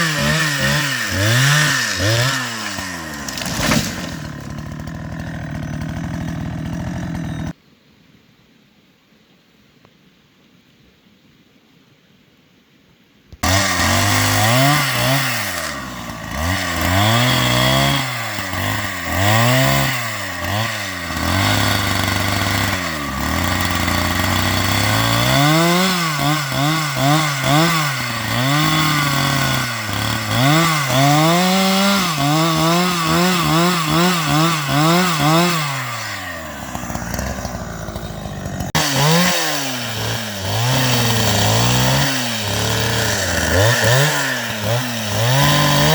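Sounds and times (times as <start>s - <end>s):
chainsaw cutting wood: 0.0s - 7.6s, 13.4s - 45.9s.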